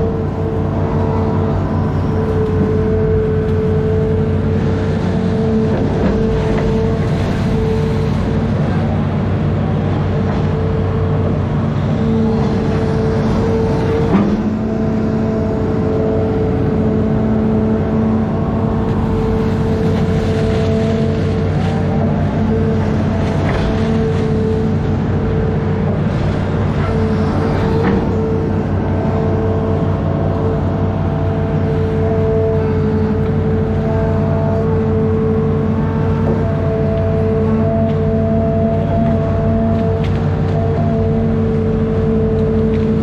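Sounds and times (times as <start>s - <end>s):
diesel engine running: 0.0s - 43.0s
hydraulic whine: 0.0s - 43.0s.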